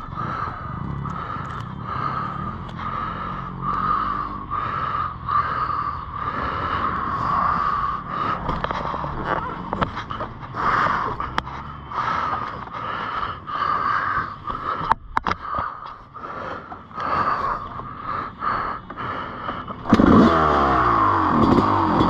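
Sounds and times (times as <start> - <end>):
dirt bike engine idling unevenly: 0.0 - 22.0.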